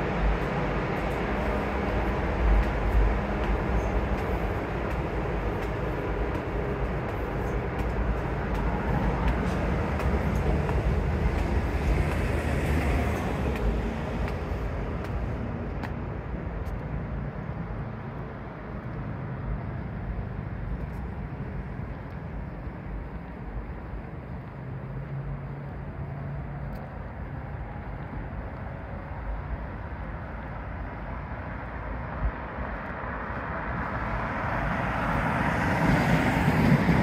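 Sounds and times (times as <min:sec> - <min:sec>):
street traffic rumble: 0:00.0 - 0:37.0
train rumbling: 0:00.0 - 0:37.0.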